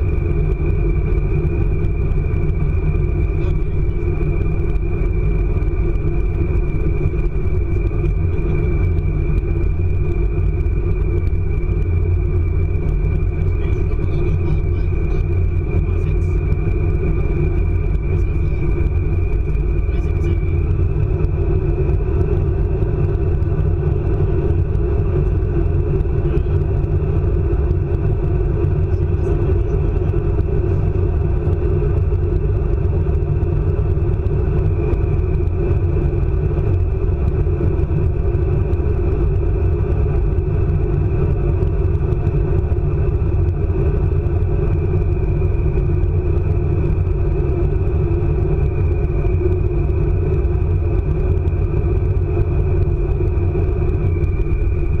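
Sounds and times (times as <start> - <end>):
thin high whine: 0.0 - 33.0, 43.4 - 55.0
train rumble inside carriage: 0.0 - 55.0.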